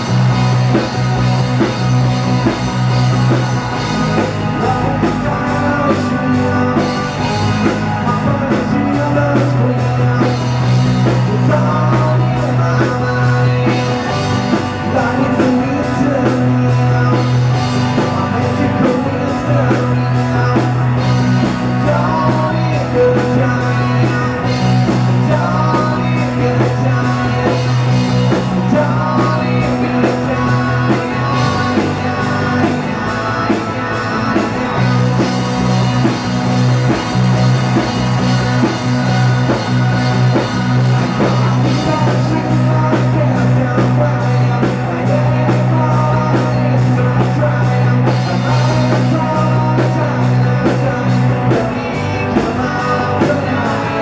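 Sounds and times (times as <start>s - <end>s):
distorted electric guitars: 0.0s - 54.0s
drum kit beat: 0.0s - 54.0s
person singing lead vocal: 0.0s - 54.0s.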